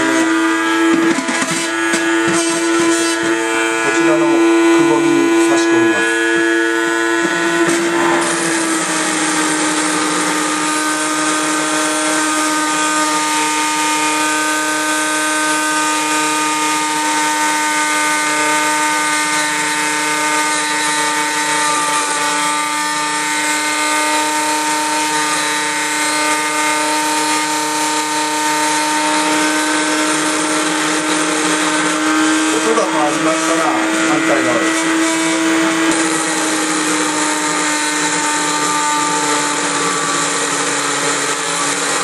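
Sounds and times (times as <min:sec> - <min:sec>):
drill sharpener grinding: 0:00.0 - 0:42.0.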